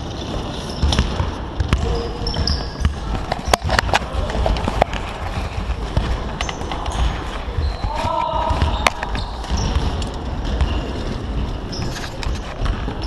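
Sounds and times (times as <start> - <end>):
basketballs bouncing on floor: 0.0 - 13.0.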